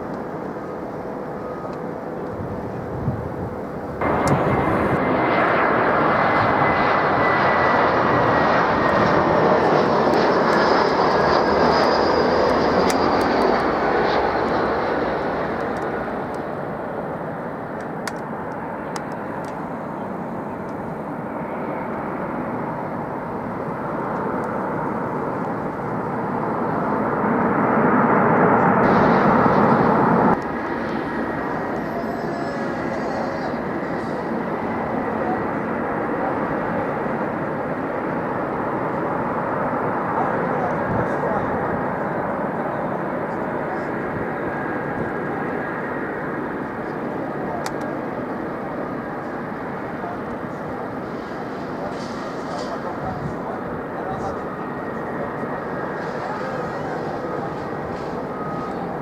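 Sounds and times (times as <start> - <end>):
jet airliner flying past: 0.0 - 59.0.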